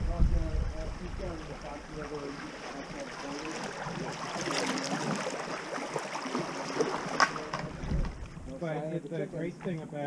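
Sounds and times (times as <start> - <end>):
water splashing around kayak: 0.0 - 10.0.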